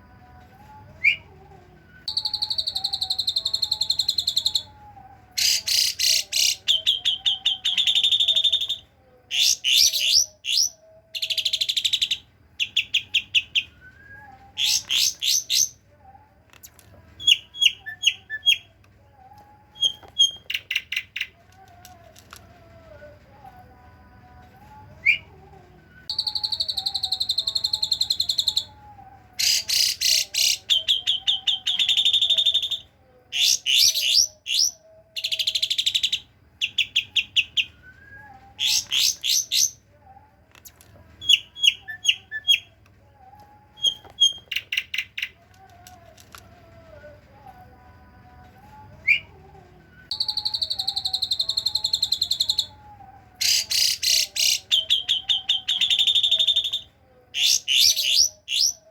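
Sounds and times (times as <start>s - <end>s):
starling singing trills and whistles: 0.6s - 15.9s, 16.7s - 21.6s, 26.0s - 45.8s, 48.6s - 58.9s.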